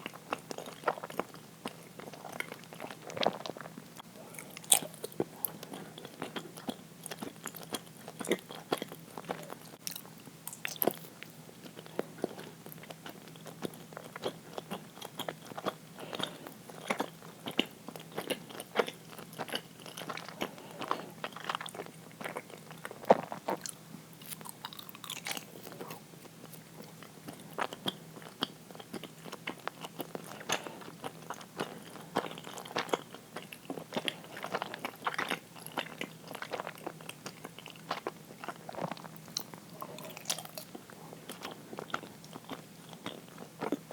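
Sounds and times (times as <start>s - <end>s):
person chewing: 0.1s - 43.9s.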